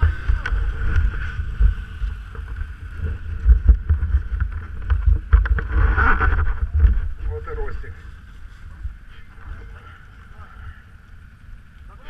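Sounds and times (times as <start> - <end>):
off-road vehicle engine rumbling: 0.0 - 12.0
wind buffeting microphone: 0.0 - 12.0.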